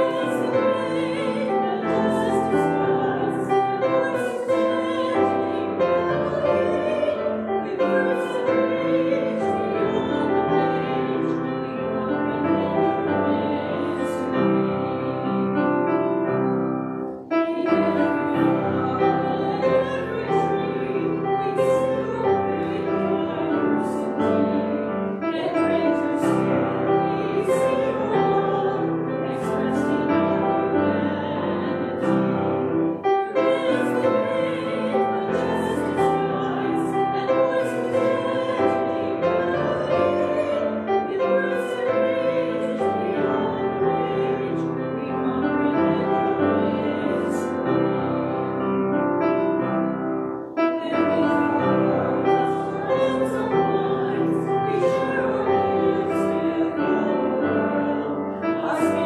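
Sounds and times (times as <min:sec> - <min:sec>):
congregation and choir singing hymn: 0:00.0 - 0:59.0
piano accompaniment: 0:00.0 - 0:59.0.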